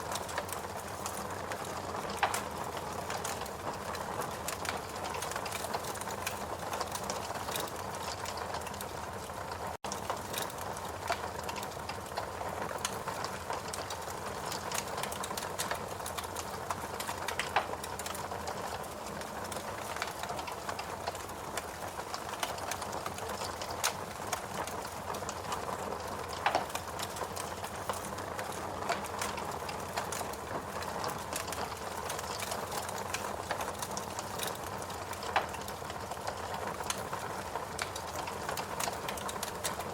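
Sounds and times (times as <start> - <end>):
fireplace crackling and popping: 0.0 - 39.9.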